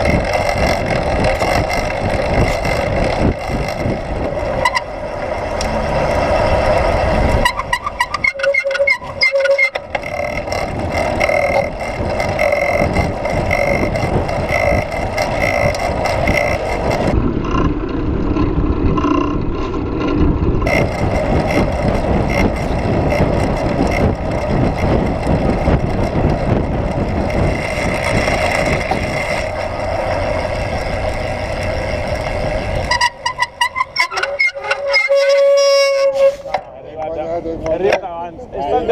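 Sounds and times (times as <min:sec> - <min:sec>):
city road traffic: 0:00.0 - 0:38.9.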